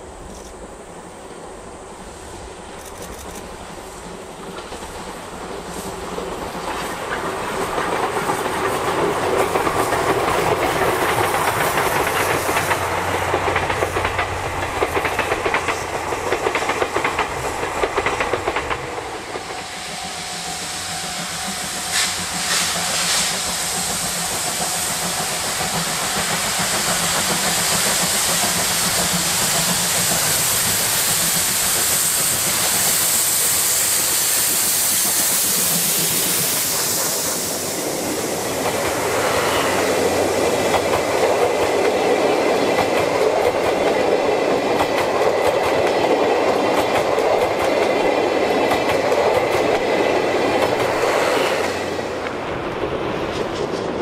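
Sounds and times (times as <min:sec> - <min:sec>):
steam locomotive working hard: 0:00.0 - 0:54.0
train wheels clattering over rails: 0:02.7 - 0:54.0.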